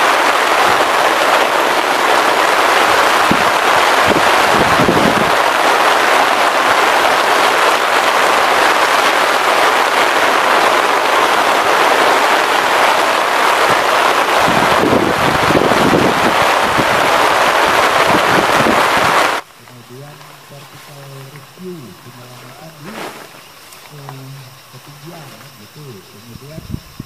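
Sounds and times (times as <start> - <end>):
heavy rain pouring: 0.0 - 27.0
wind buffeting microphone: 0.0 - 27.0.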